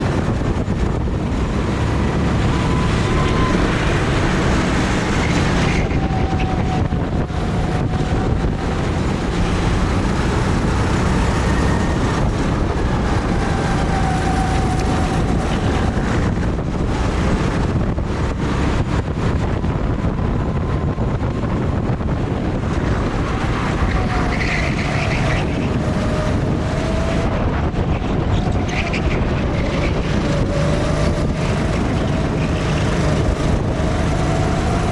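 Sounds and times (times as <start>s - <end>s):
go-kart engines: 0.0s - 34.9s
wind buffeting microphone: 0.0s - 34.9s.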